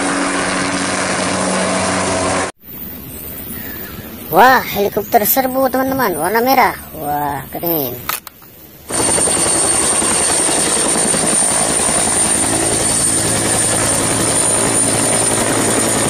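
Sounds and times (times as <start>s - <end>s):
helicopter high whine: 0.0s - 16.0s
helicopter rotor beat: 0.0s - 16.0s.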